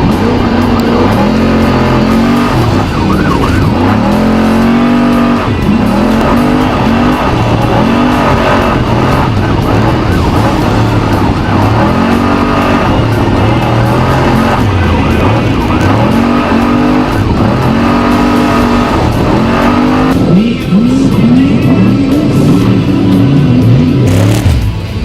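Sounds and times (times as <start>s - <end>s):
truck engine revving hard: 0.0s - 25.0s.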